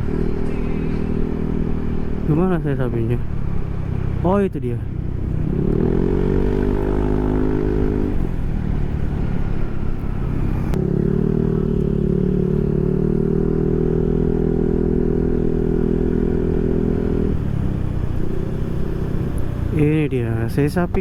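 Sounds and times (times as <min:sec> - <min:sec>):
scooter engine while riding: 0:00.0 - 0:02.4, 0:04.9 - 0:19.8.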